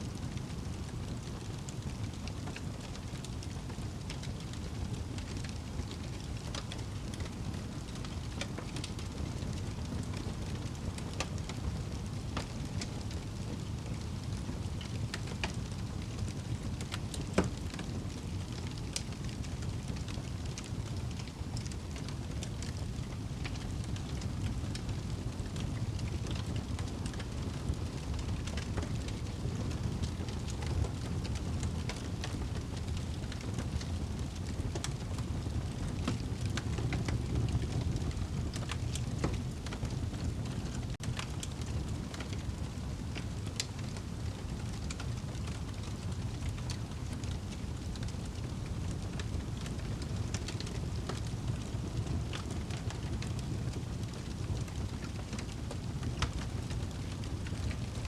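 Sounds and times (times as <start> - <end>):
fire popping and snapping: 0.0 - 58.0
wood fire crackling: 0.0 - 58.0.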